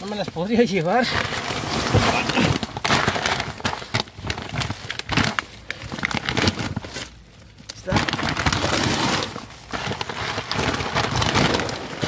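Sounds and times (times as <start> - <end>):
plastic bags and boxes rustling: 0.0 - 12.0
sharp crackles and knocks: 0.0 - 12.0.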